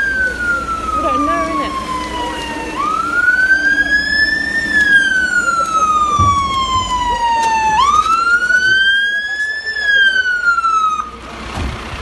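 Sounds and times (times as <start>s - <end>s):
fire engine siren wailing: 0.0s - 11.5s.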